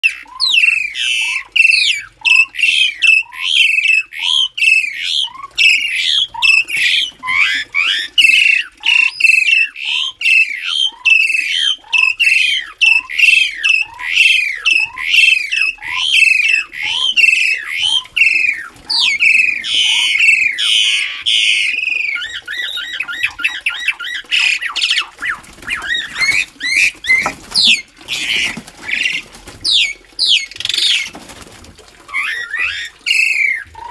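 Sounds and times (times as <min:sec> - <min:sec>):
starling harsh calls: 0:00.0 - 0:31.1, 0:32.1 - 0:33.9.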